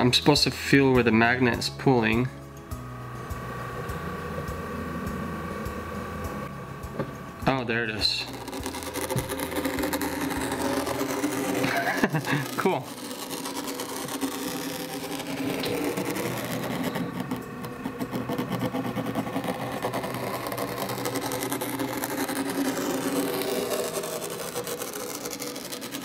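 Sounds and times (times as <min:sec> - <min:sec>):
machine motor humming: 0:02.0 - 0:26.0.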